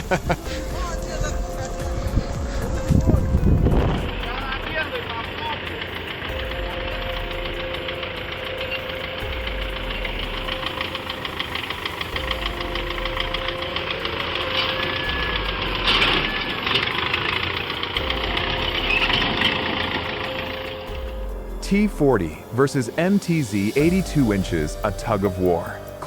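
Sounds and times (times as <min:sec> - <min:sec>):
tractor diesel engines under load: 0:00.0 - 0:26.0.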